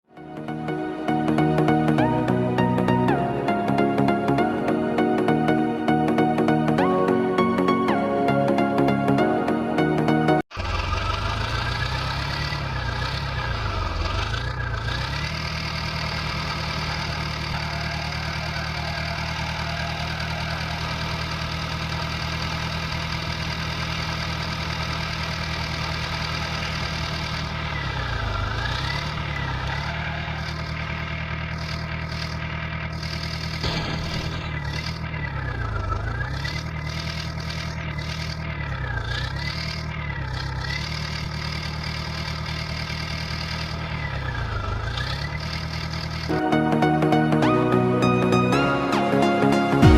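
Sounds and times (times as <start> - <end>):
electronic tractor engine drone: 0.0 - 49.9.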